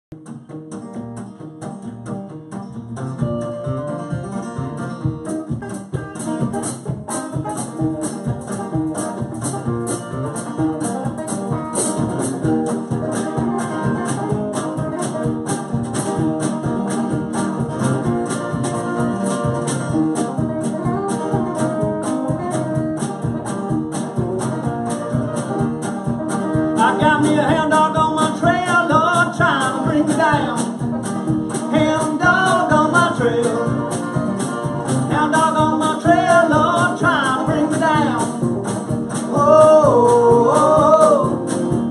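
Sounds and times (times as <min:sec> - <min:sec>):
acoustic guitars strumming: 0:00.1 - 0:41.9
electric guitar playing: 0:00.2 - 0:41.9
steady drum beat: 0:03.0 - 0:41.9.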